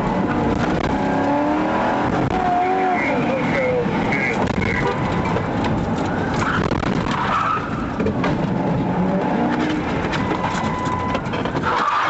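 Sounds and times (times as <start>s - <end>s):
car engine revving: 0.0s - 10.2s
tyres skidding on road: 0.0s - 12.0s.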